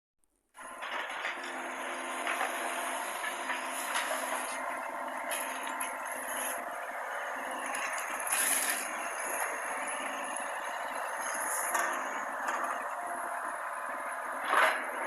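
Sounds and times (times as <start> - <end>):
mini excavator running: 0.5 - 15.0.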